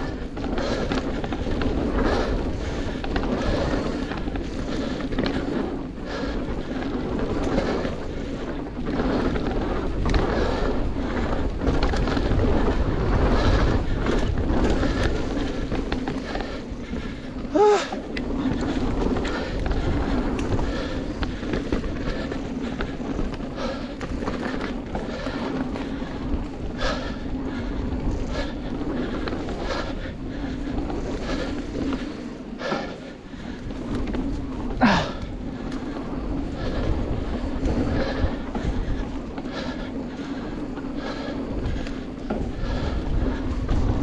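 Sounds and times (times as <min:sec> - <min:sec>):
bike rattling over bumps: 0:00.0 - 0:44.0
bike tyres rumbling on dirt: 0:00.0 - 0:44.0
wind on microphone: 0:00.0 - 0:44.0.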